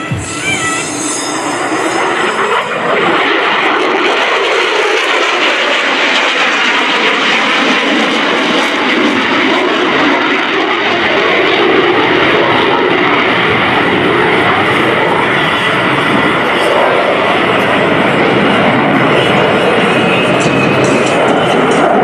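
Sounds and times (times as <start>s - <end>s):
fighter jet afterburner roar: 0.0s - 22.0s.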